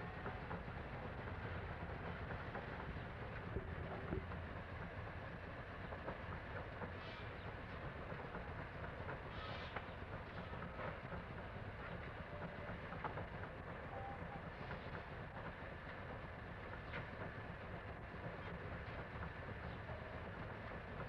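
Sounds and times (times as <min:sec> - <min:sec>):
mill machinery rumbling: 0:00.0 - 0:21.0.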